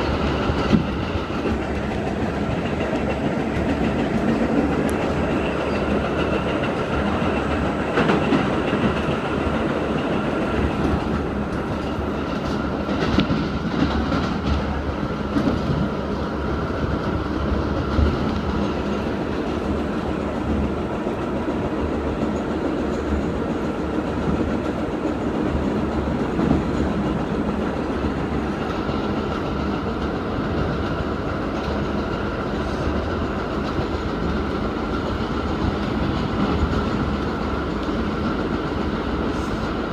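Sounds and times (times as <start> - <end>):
subway train wheels rumbling on rail: 0.0 - 39.9.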